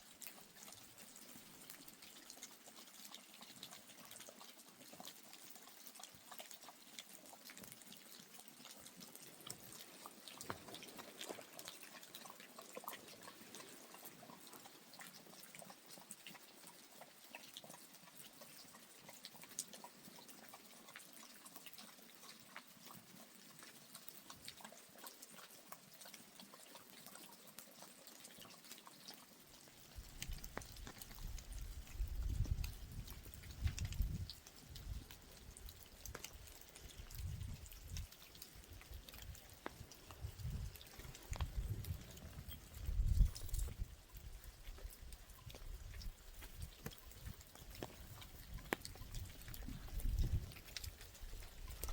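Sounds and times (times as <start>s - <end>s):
rain dripping and pattering: 0.0s - 51.9s.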